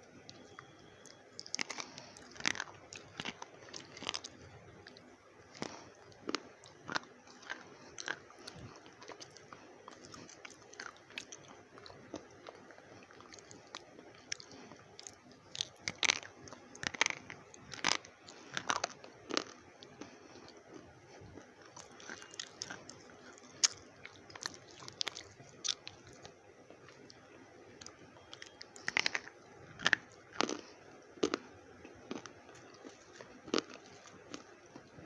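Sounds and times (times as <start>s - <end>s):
soft chewing: 0.0s - 35.0s.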